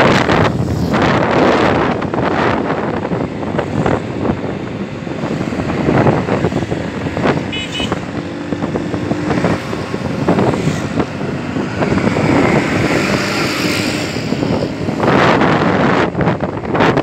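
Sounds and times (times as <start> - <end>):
road noise: 0.0 - 17.0
vehicle engine: 0.0 - 17.0
wind buffeting the microphone: 0.0 - 17.0.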